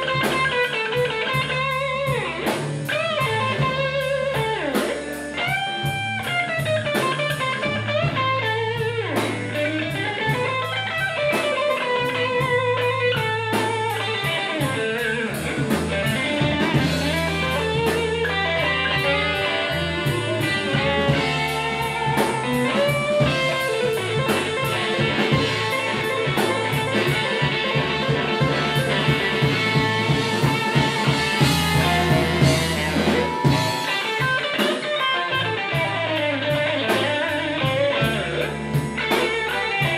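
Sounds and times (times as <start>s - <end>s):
drum kit: 0.0s - 39.9s
electric bass: 0.0s - 39.9s
electric guitar lines: 0.0s - 39.9s.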